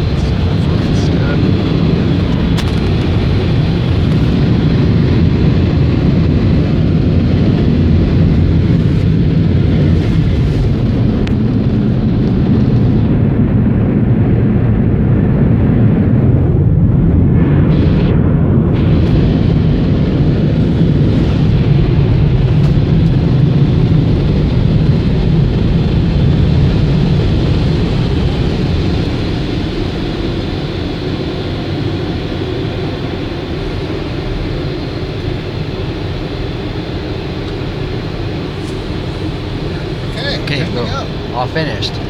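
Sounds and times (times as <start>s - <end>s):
car wash machinery rushing: 0.0s - 13.2s, 18.8s - 42.0s.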